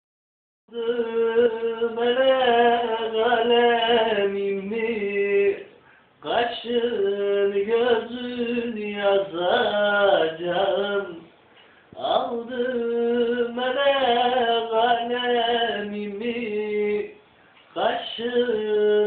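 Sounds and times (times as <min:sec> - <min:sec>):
man singing unaccompanied: 0:00.7 - 0:19.0.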